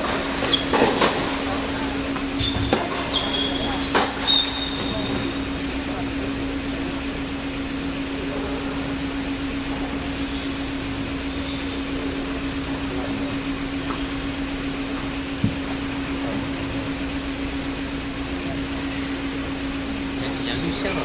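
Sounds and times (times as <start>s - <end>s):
constant low hum: 0.0s - 21.0s
ventilation noise: 0.0s - 21.0s.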